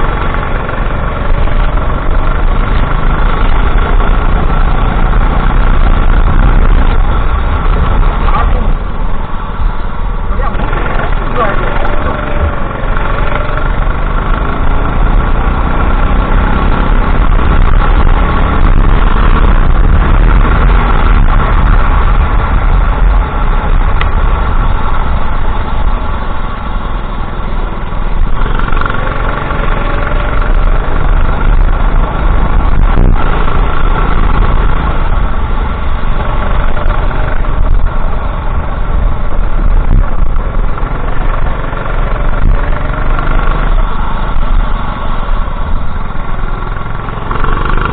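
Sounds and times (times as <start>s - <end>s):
go-kart engine revving: 0.0s - 47.9s.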